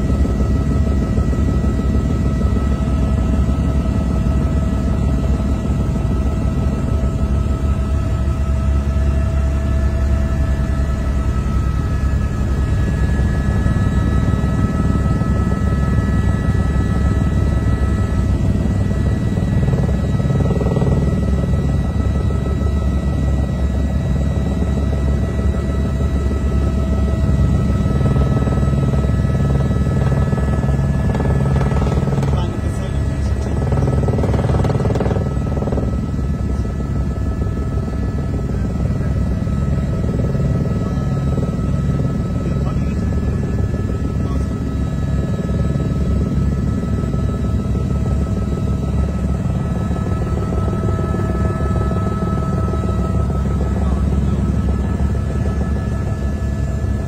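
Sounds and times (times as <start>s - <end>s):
helicopter rotor drone: 0.0s - 57.0s
turbine whine: 0.0s - 57.0s.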